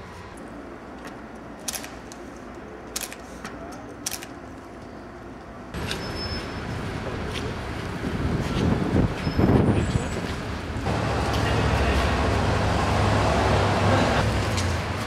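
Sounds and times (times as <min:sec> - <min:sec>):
construction site noise: 0:00.0 - 0:15.0
traffic: 0:00.0 - 0:15.0.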